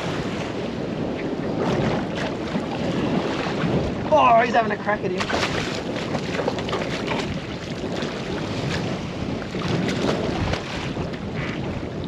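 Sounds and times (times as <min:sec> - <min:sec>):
water around boat: 0:00.0 - 0:12.0
wind on microphone: 0:00.0 - 0:12.0.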